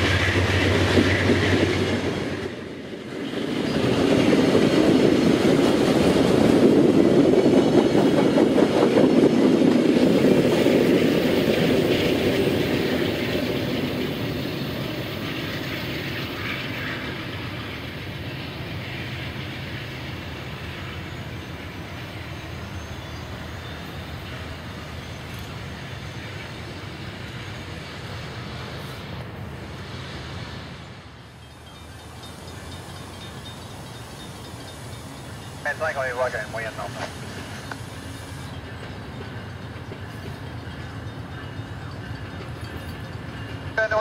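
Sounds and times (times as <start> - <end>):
train wheels running on rails: 0.0 - 44.0.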